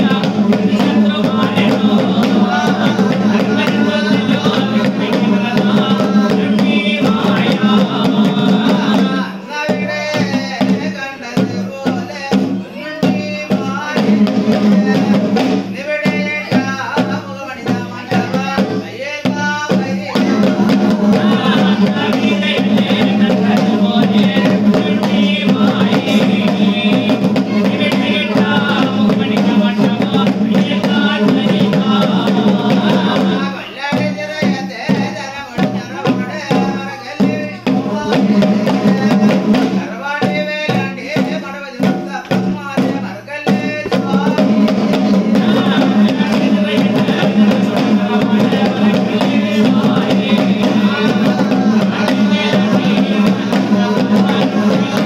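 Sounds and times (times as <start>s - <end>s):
drums beaten with sticks: 0.0s - 55.0s
group of men singing: 0.0s - 55.0s.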